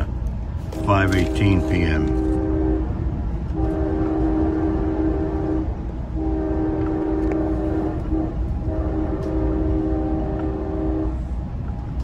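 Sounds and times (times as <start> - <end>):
wheels rumbling on rails: 0.0 - 12.0
train horn blasts: 0.7 - 11.4.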